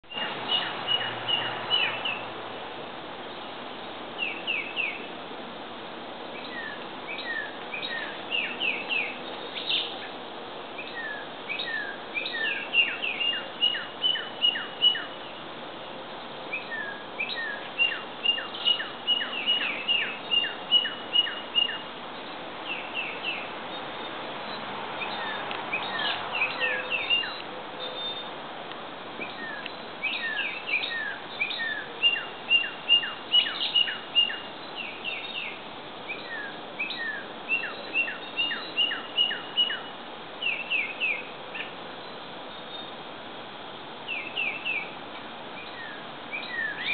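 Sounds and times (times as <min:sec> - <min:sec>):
songbirds whistling: 0:00.0 - 0:02.2, 0:04.2 - 0:05.1, 0:06.4 - 0:10.2, 0:10.8 - 0:15.4, 0:16.5 - 0:28.4, 0:29.2 - 0:43.0, 0:44.1 - 0:45.0, 0:45.6 - 0:46.9.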